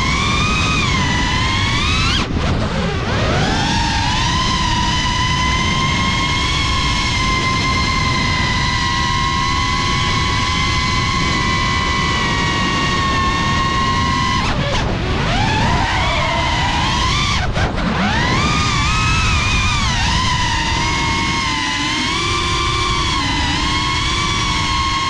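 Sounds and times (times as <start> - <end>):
drone propellers whining: 0.0 - 25.0
low rushing noise: 0.8 - 25.0.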